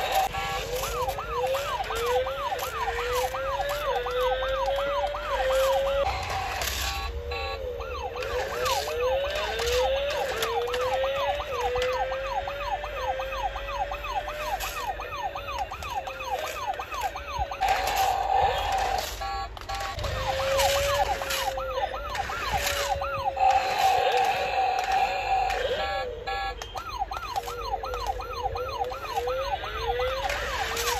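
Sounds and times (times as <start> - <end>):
electronic siren warbling: 0.0 - 30.9.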